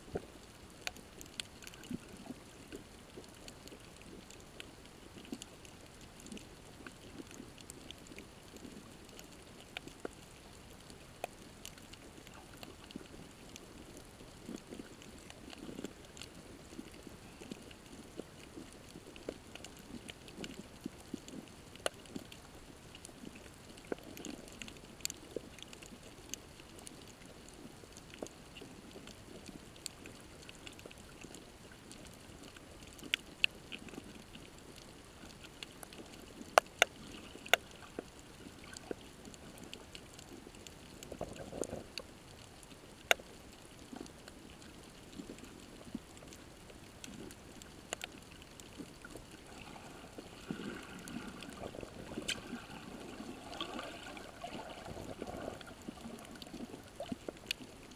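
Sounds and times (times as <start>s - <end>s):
sharp clicks and crackles: 0.1s - 49.5s, 50.1s - 53.2s, 54.1s - 57.9s.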